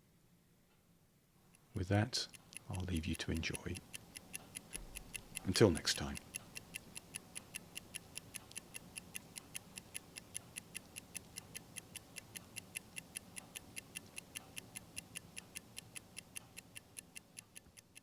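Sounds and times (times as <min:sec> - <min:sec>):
watch ticking: 0:01.5 - 0:18.0.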